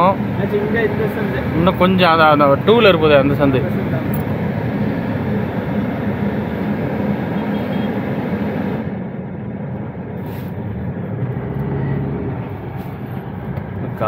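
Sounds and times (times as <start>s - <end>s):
car engine hum: 0.0s - 14.0s
road noise inside car: 0.0s - 14.0s.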